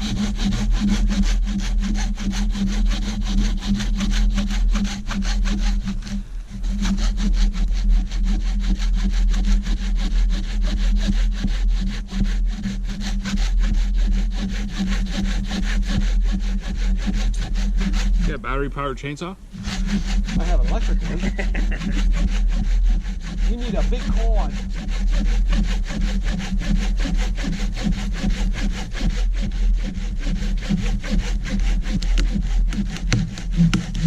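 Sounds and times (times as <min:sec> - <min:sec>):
hand saw cutting log: 0:00.0 - 0:18.9, 0:19.5 - 0:34.0.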